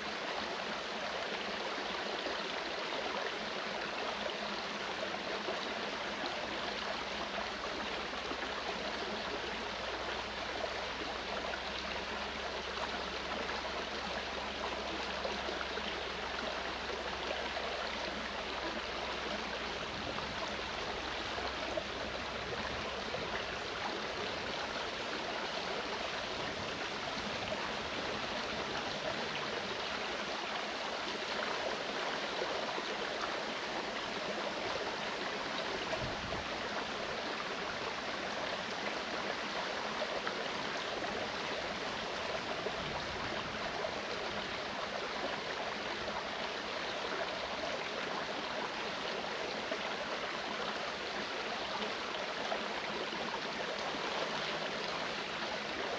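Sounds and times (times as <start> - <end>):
stream running over rocks: 0.0 - 55.9.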